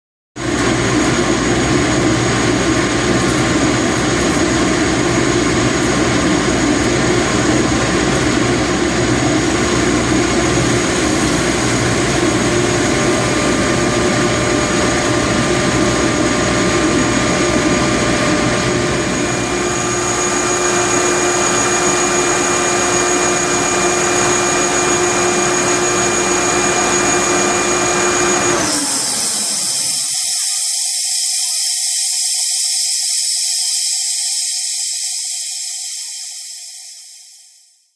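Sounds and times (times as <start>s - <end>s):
air compressor running: 0.4s - 36.7s.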